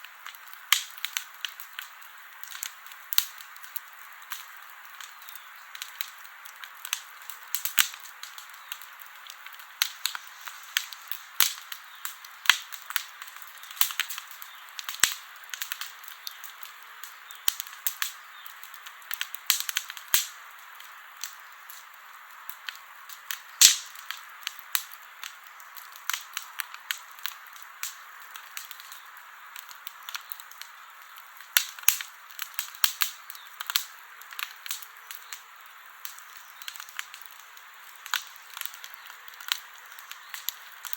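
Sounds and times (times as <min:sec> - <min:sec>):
campfire crackling and popping: 0:00.0 - 0:40.9
soft hiss of burning: 0:00.0 - 0:40.9.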